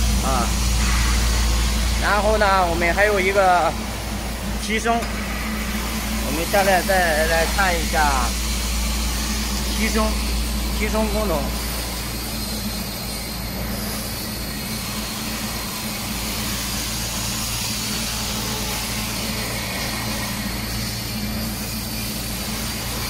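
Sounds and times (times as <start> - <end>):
low machine hum: 0.0 - 23.0
steady rushing noise: 0.0 - 23.0.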